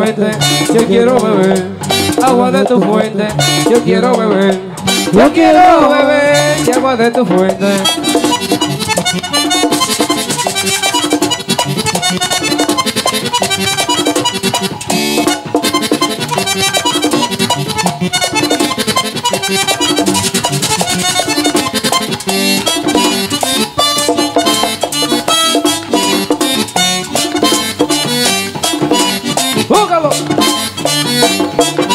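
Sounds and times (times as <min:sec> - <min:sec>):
button accordion: 0:00.0 - 0:31.9
merengue band playing: 0:00.0 - 0:31.9.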